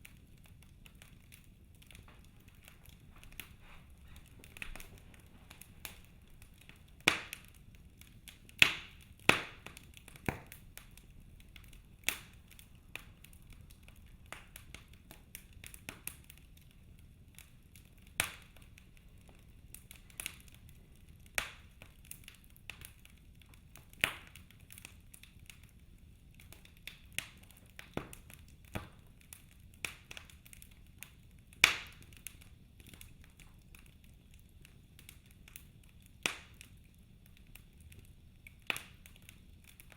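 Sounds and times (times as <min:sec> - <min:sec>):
faint low hiss: 0:00.0 - 0:39.9
sharp pops of fire: 0:00.0 - 0:39.9
wood fire crackling: 0:00.0 - 0:39.9.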